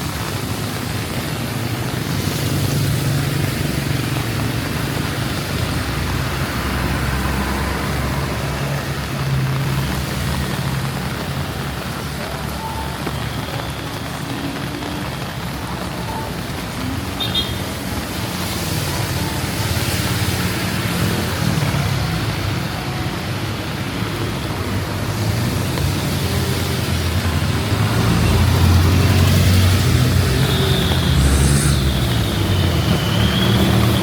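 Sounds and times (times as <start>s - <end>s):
road traffic on wet streets: 0.0s - 34.0s
steady rain hiss: 0.0s - 34.0s
vehicle engine rumble: 0.0s - 34.0s.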